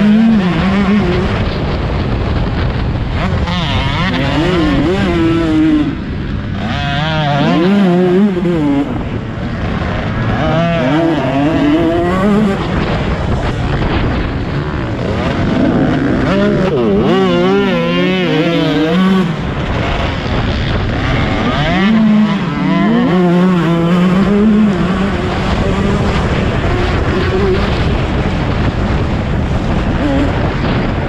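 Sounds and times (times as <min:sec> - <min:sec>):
motorbike engines revving: 0:00.0 - 0:31.0.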